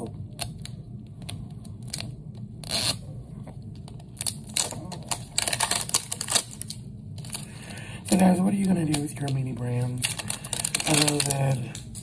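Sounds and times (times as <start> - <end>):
plastic wrapping crinkling and tearing: 0.4 - 3.0, 3.8 - 12.0.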